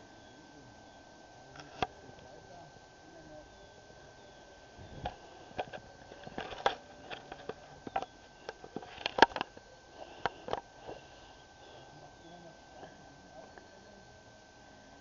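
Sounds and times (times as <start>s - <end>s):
faint steady high tone: 0.0s - 15.0s.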